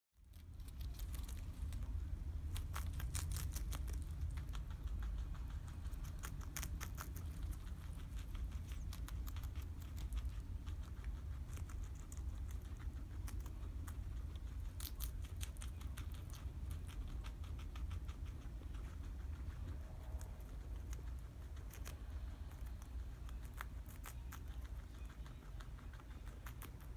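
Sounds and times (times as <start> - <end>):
guinea pigs chewing lettuce: 0.2 - 26.9
low rumble: 0.2 - 26.9.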